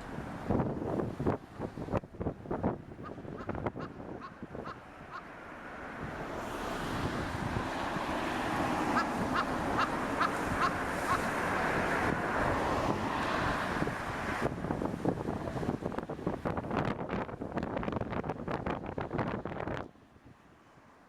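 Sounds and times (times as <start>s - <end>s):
strong wind rushing: 0.0s - 20.0s.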